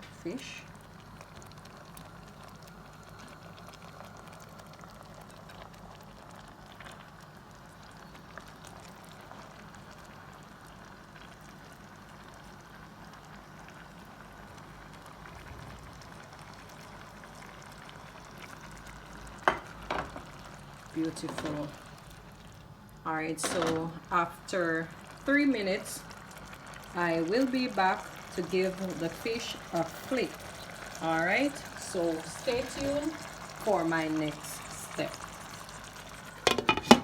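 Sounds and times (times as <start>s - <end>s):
food simmering and bubbling: 0.0s - 37.0s.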